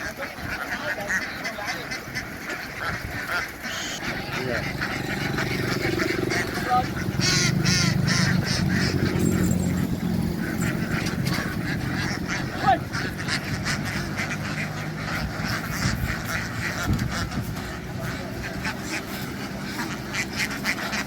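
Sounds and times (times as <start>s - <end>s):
ducks quacking: 0.0s - 21.0s.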